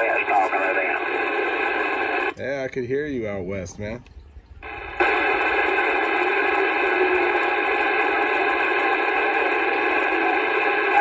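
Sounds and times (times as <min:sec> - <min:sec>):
radio static hiss: 0:00.0 - 0:03.4, 0:04.6 - 0:11.0.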